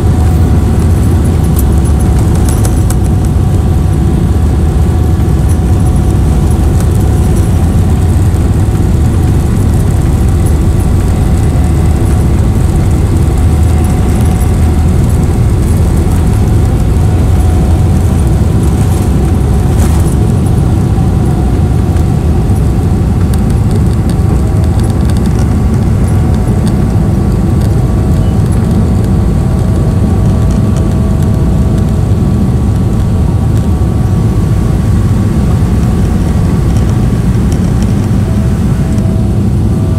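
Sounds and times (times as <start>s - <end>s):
jet engine rumble: 0.0s - 39.9s
jet engine whine: 0.0s - 39.9s.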